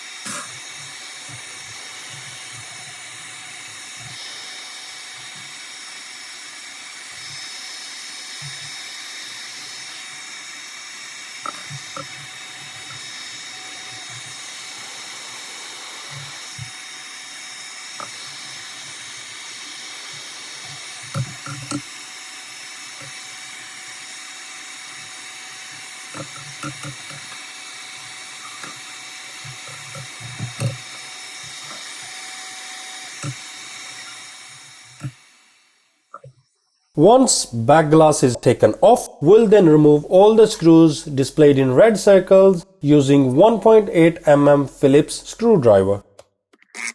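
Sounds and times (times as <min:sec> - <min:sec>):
hot air station hissing and whining: 0:00.0 - 0:46.0.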